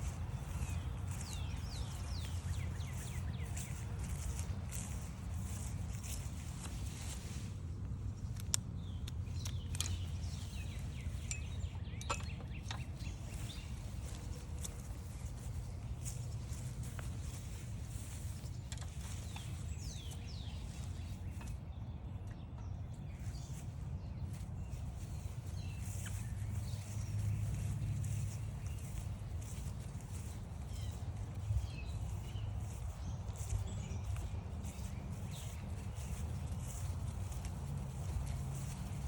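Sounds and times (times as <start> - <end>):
songbirds chirping and whistling: 0.0 - 39.0
steady low rumble: 0.0 - 39.0.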